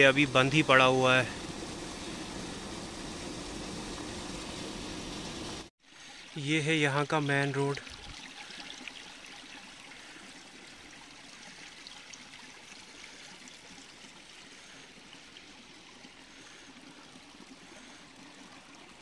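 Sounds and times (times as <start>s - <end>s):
rush of running water: 0.0s - 19.0s.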